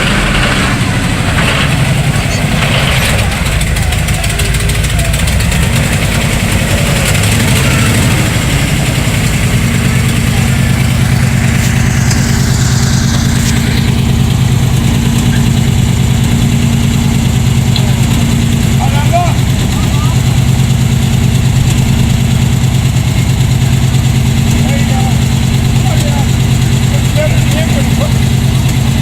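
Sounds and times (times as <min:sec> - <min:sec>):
monster truck engine idling: 0:00.0 - 0:29.0.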